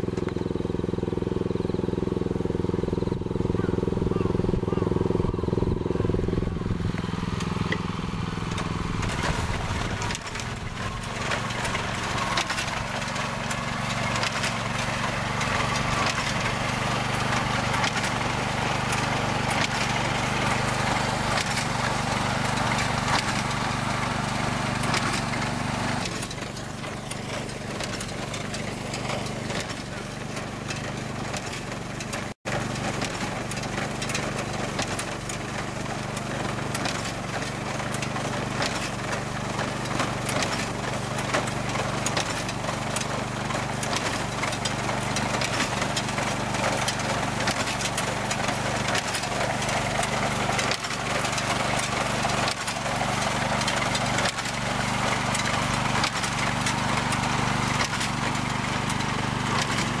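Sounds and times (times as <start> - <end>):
mechanical rattle and knocks: 0.0 - 60.0
small engine hum: 0.0 - 60.0.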